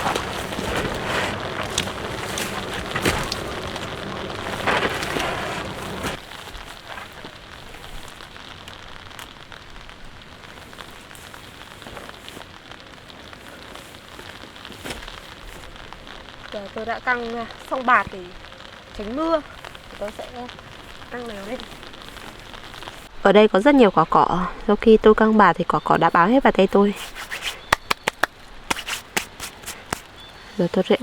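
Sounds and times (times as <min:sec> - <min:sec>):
rain on a tarp: 0:00.0 - 0:23.2, 0:26.0 - 0:31.0.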